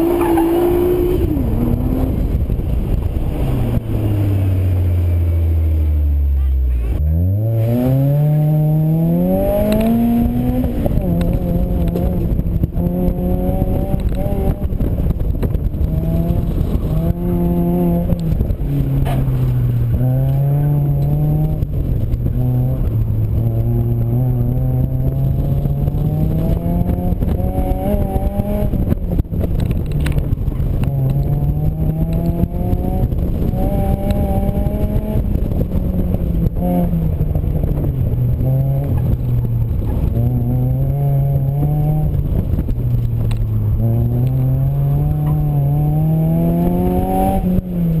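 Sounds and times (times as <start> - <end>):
car engine accelerating: 0.0 - 48.0
wind and road noise: 0.0 - 48.0.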